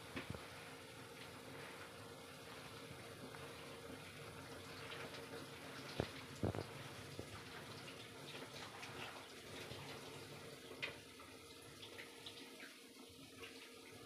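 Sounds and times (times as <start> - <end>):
soup bubbling in a pot: 0.0 - 14.0.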